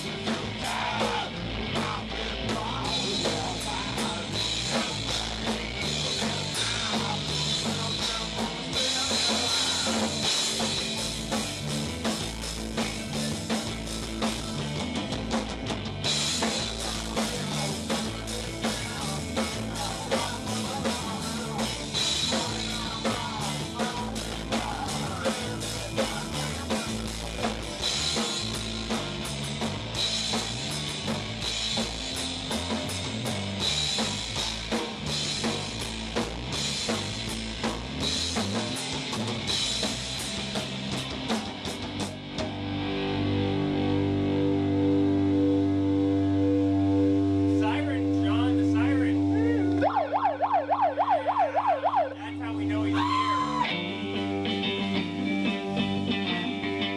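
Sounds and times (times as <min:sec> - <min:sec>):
drum kit beat: 0:00.0 - 0:42.6, 0:48.6 - 0:53.8
rock band playing: 0:00.0 - 0:56.9.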